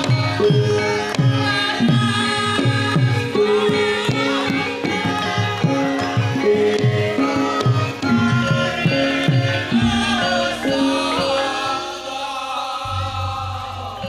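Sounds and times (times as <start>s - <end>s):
ringing metallophone notes: 0.0s - 14.0s.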